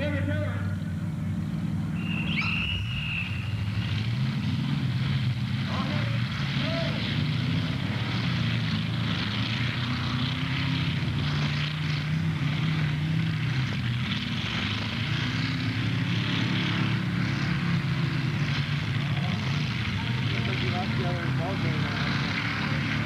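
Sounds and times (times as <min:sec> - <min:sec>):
car engines droning: 0:00.0 - 0:23.0.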